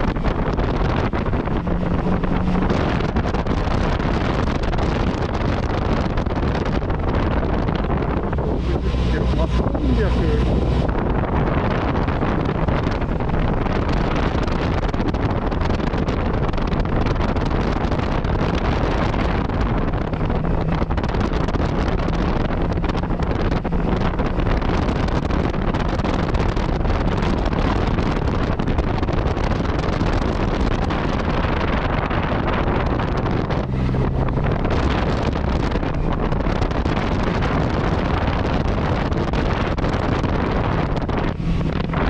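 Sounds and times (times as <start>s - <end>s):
motorcycle engine running: 0.0s - 42.0s
wind noise on microphone: 0.0s - 42.0s.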